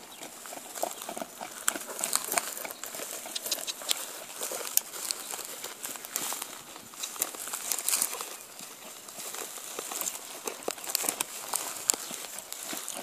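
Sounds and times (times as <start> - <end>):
horse trotting on grassy ground: 0.0 - 13.0.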